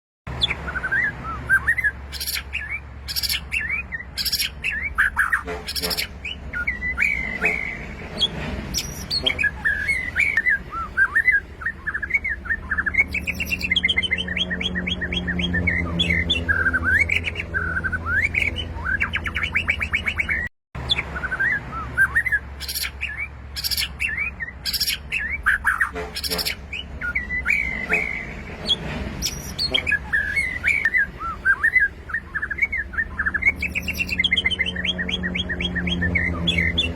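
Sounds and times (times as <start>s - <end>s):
bird singing whistled song: 0.4s - 36.9s.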